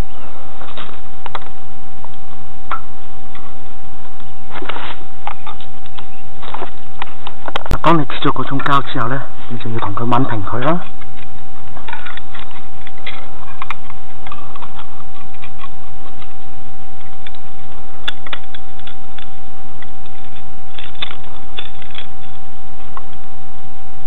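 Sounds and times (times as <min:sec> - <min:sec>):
steady thin whine: 0:00.0 - 0:24.0.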